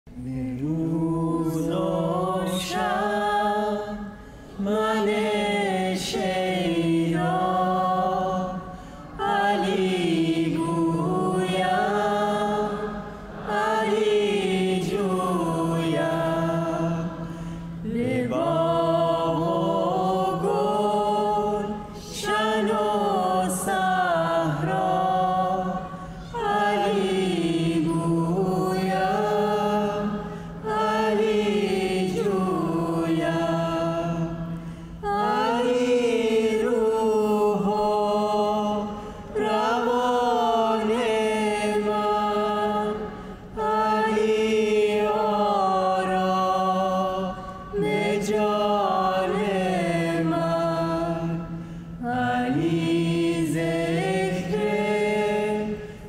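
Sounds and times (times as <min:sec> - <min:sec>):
chant-like singing: 0:00.1 - 0:56.0.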